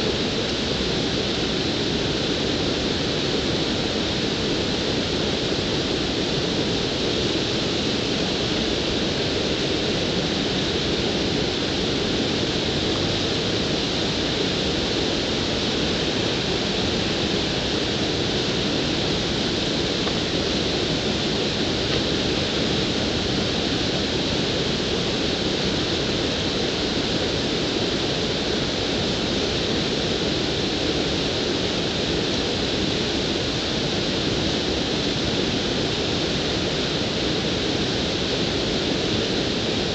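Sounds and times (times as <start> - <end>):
water rushing over weir: 0.0 - 39.9.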